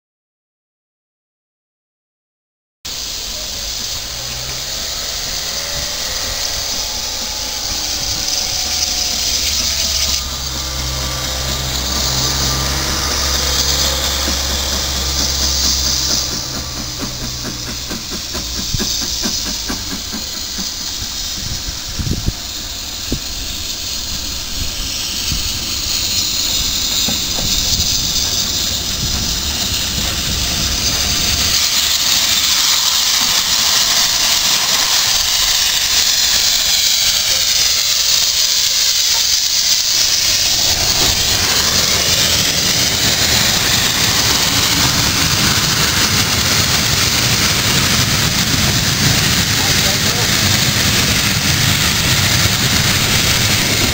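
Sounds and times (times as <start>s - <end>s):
steam locomotive hissing: 2.9s - 53.9s
train coaches running past: 2.9s - 53.9s.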